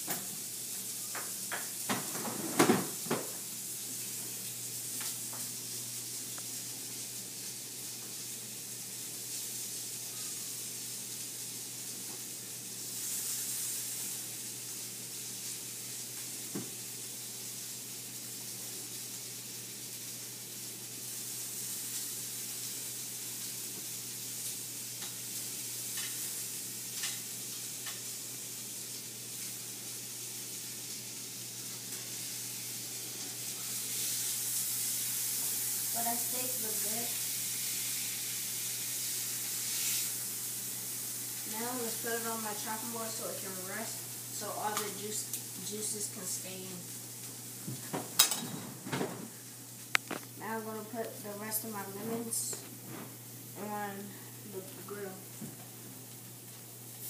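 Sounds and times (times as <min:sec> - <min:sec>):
food sizzling in hot oil: 0:00.0 - 0:48.5, 0:49.3 - 0:57.0.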